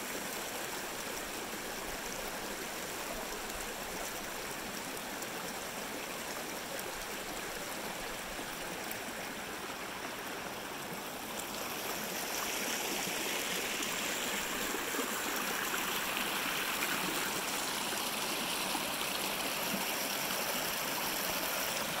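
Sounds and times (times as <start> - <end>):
creek running over rocks: 0.0 - 22.0.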